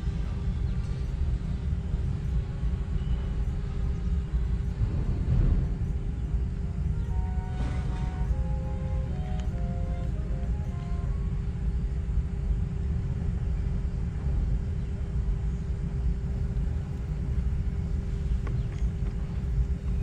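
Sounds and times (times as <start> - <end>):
faint constant hum: 0.0 - 20.0
low rumble: 0.0 - 20.0.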